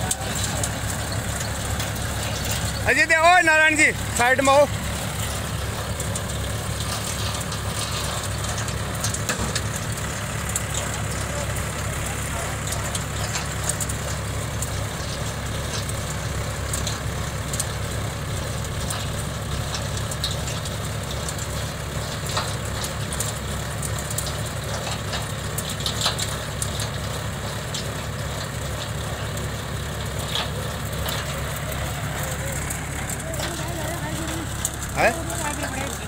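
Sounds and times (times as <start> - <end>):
diesel tractor engine under load: 0.0 - 36.0.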